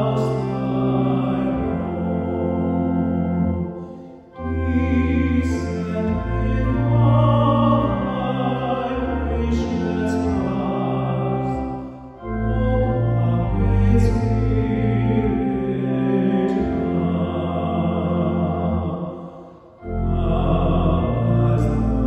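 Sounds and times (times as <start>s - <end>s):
man singing: 0.0s - 2.4s, 4.6s - 22.0s
organ chords: 0.0s - 22.0s.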